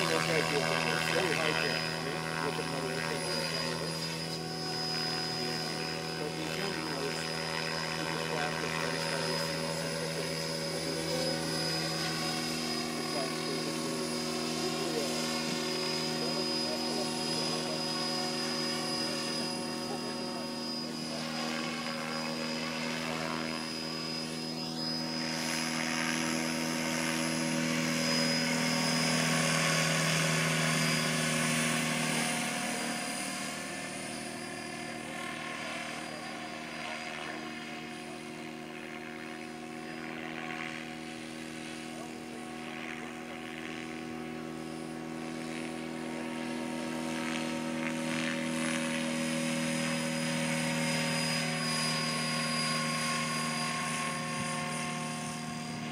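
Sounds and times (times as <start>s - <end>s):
rc helicopter whirring hum: 0.0s - 55.9s.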